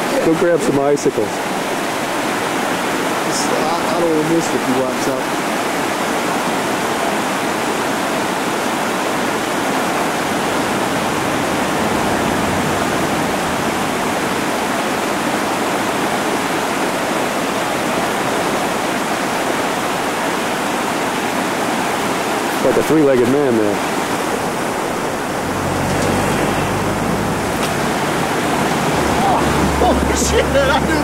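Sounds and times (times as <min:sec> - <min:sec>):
river rapids roaring over rocks: 0:00.0 - 0:31.0.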